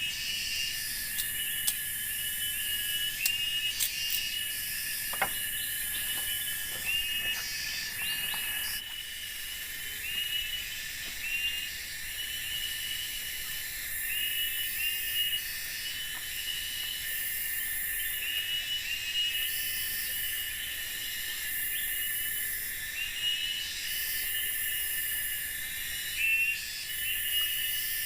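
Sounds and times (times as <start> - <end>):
insect trill and buzzing: 0.0 - 28.0
short insect chirp: 0.0 - 28.0.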